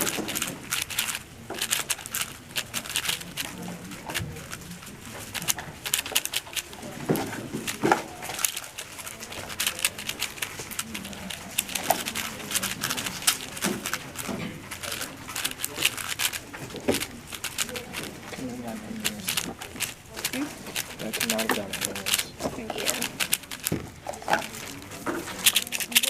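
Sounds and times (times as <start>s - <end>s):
speed cube clicking: 0.0s - 26.0s.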